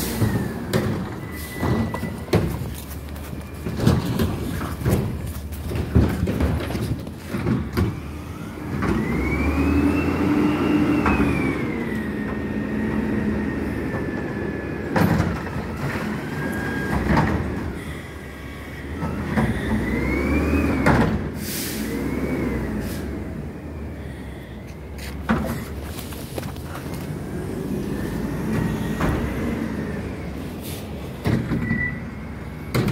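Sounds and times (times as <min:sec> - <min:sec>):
garbage truck engine revving: 0:00.0 - 0:24.2, 0:26.8 - 0:32.9.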